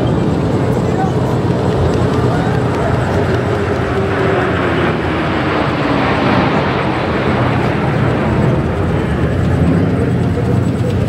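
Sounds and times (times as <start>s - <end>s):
heavy machinery engine rumble: 0.0s - 11.0s.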